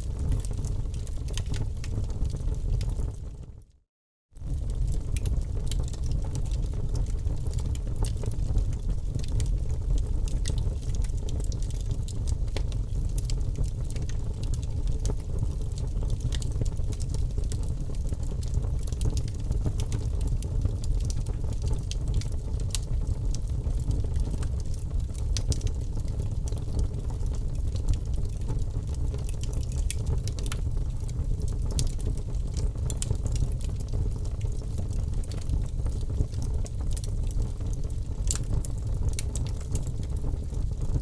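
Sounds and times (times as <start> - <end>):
wood fire crackling: 0.0 - 3.3, 4.4 - 41.0.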